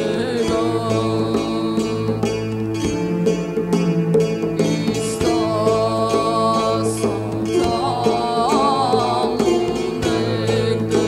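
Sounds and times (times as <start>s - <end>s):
person singing ornamented melody: 0.0s - 3.0s, 4.6s - 11.0s
long-necked plucked lute: 0.0s - 11.0s.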